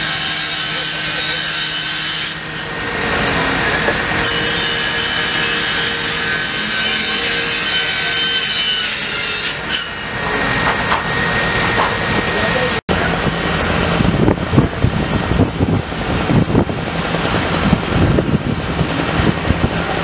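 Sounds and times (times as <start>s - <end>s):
engine-driven equipment buzzing: 0.0s - 20.0s.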